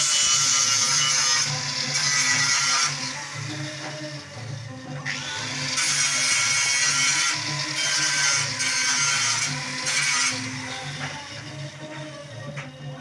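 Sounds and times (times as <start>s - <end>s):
power tool running: 0.0s - 12.7s
background music: 0.0s - 13.0s.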